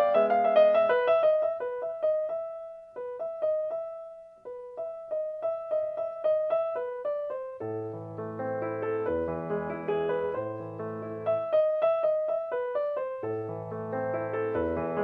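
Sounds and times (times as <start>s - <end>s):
slow solo piano melody: 0.0s - 15.0s.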